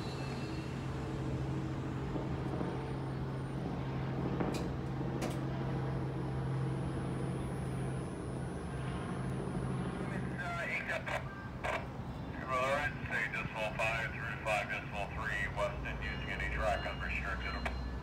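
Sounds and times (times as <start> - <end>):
diesel train engine rumbling: 0.0 - 18.0.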